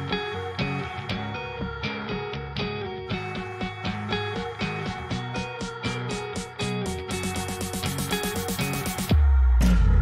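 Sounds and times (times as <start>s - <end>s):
plucked guitar music: 0.0s - 9.0s.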